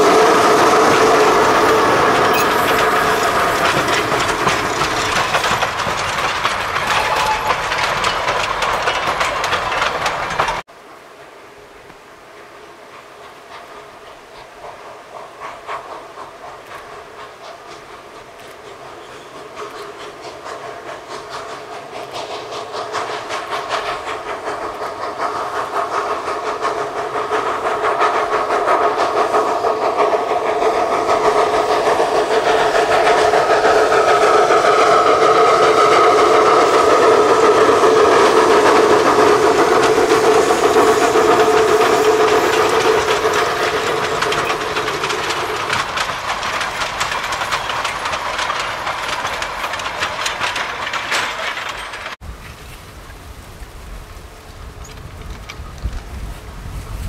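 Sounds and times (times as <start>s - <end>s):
steam locomotive chuffing: 0.0s - 10.7s, 12.4s - 52.3s, 53.5s - 57.0s
wheels clattering on rails: 0.0s - 10.7s, 12.8s - 57.0s.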